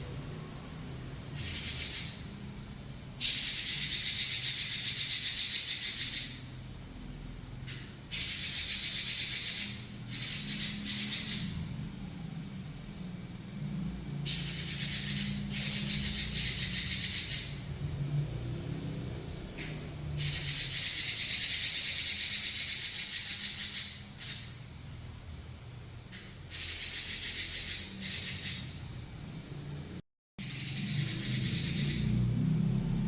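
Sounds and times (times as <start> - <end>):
bird singing rolling trills: 0.0 - 18.0, 19.1 - 24.8, 26.1 - 29.0, 30.4 - 32.4.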